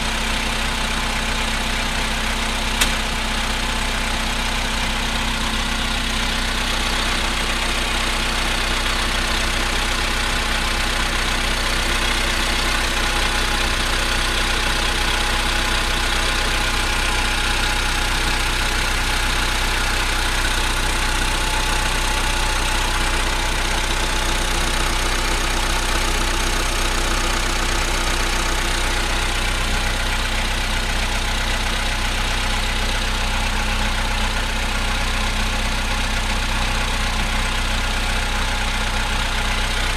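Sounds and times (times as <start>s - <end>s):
car engine idling with knocking: 0.0s - 39.9s.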